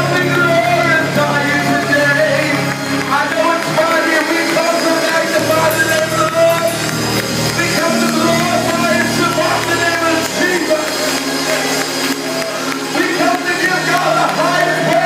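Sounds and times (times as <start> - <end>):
gospel group singing with music: 0.0 - 15.0.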